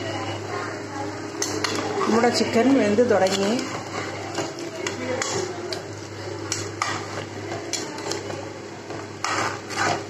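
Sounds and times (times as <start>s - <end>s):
metal spoon scraping a pan: 1.4s - 10.0s.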